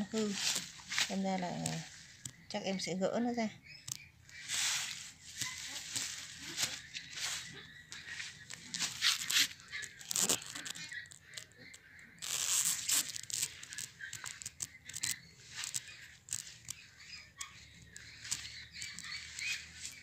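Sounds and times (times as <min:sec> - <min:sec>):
plant roots and stems tearing: 0:00.0 - 0:02.4, 0:03.8 - 0:20.0
stems snapping: 0:00.0 - 0:02.5, 0:03.8 - 0:20.0
leaves rustling: 0:00.0 - 0:02.9, 0:04.3 - 0:20.0.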